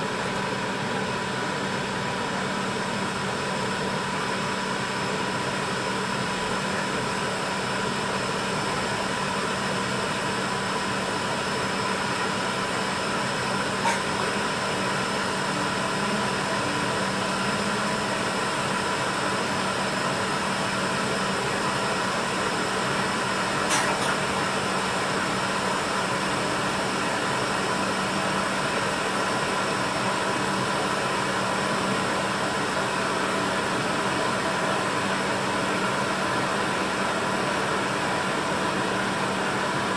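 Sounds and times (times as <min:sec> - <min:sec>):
fan-like hum and hiss: 0:00.0 - 0:39.9.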